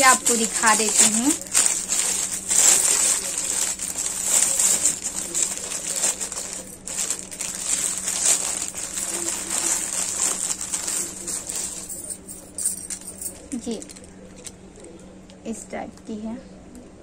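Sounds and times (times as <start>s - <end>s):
packaging rustling and crinkling: 0.0s - 14.5s.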